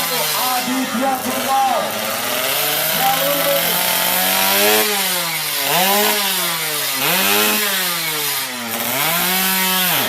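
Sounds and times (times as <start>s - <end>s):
small motorcycle engine revving: 0.0s - 10.0s.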